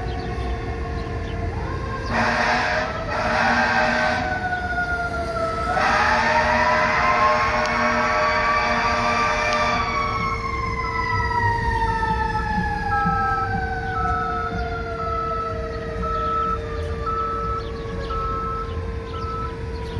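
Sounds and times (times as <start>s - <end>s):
mechanical siren winding down: 0.0s - 19.9s.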